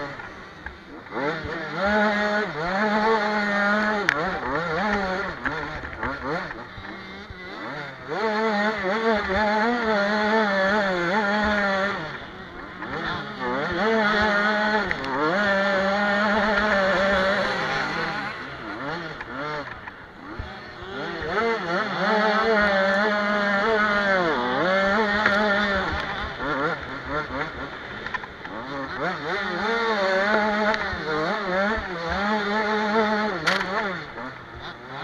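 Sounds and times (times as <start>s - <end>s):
motocross bike engine revving: 0.0s - 35.0s.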